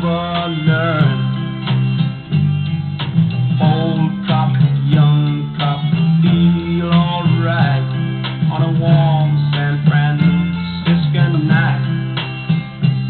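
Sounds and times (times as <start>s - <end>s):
rock song on vinyl record: 0.0s - 13.0s.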